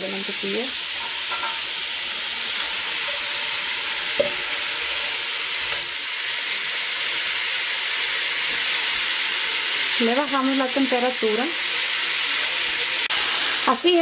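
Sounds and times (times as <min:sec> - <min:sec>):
butter sizzling in a pot: 0:00.0 - 0:14.0.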